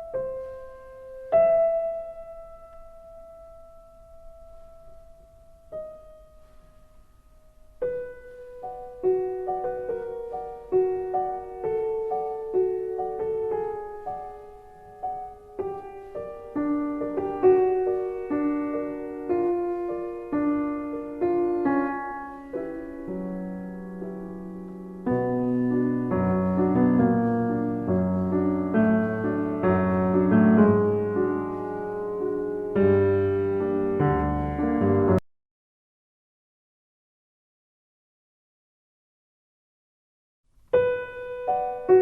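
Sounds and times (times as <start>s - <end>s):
deep piano bass notes: 0.0s - 35.2s
solo piano melody: 0.0s - 35.2s, 40.6s - 42.0s.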